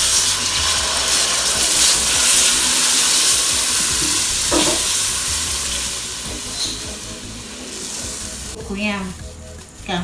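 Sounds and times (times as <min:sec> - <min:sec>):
paste sizzling in hot oil: 0:00.0 - 0:08.7.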